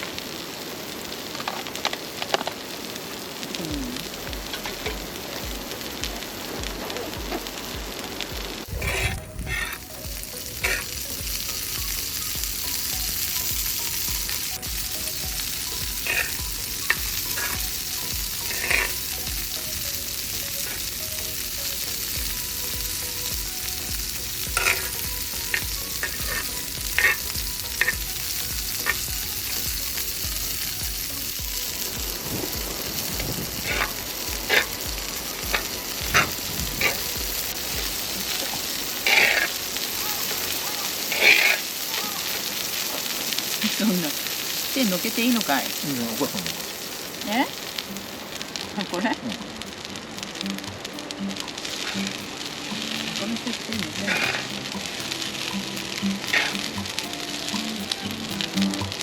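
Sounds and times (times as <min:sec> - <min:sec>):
rice sizzling in a pan: 0:00.0 - 0:59.0.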